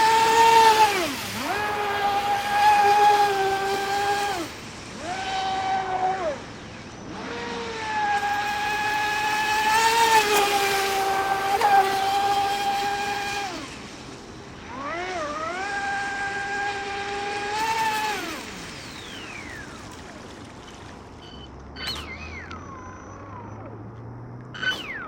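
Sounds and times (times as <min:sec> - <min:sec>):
electric motor whining: 0:00.0 - 0:20.2.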